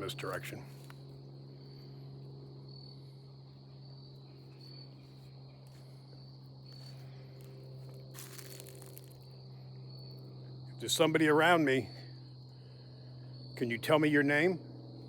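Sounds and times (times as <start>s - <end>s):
cricket chirping: 0.0s - 15.0s
propeller aircraft droning: 0.0s - 15.0s.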